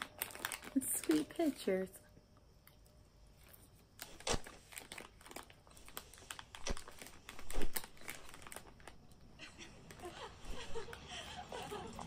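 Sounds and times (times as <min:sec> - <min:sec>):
crinkling and rustling: 0:00.0 - 0:01.9, 0:02.6 - 0:12.0.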